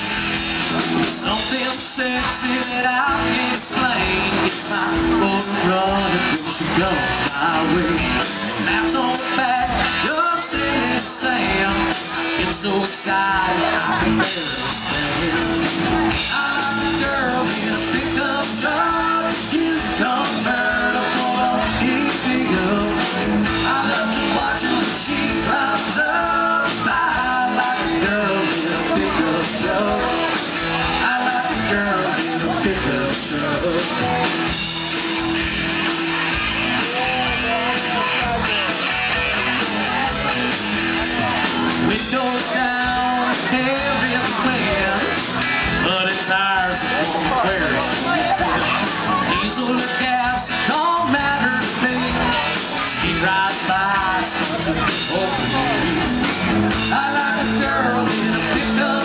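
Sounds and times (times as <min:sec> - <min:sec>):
live country-rock band: 0:00.0 - 0:59.0
man singing: 0:00.0 - 0:59.0.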